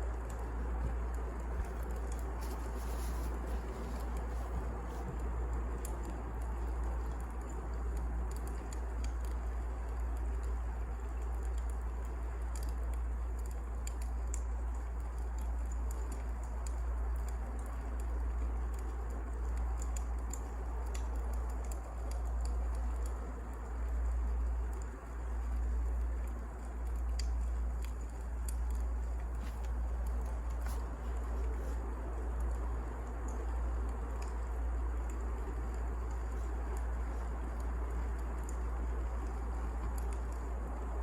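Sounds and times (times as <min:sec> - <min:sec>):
fire crackling and popping: 0:00.0 - 0:41.0
wood fire rumbling: 0:00.0 - 0:41.0.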